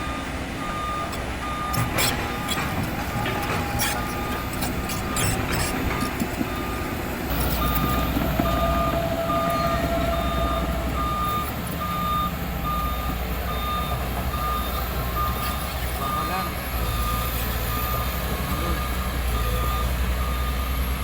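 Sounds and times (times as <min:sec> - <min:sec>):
machine engine rumble: 0:00.0 - 0:21.0
reversing alarm beeping: 0:00.0 - 0:21.0.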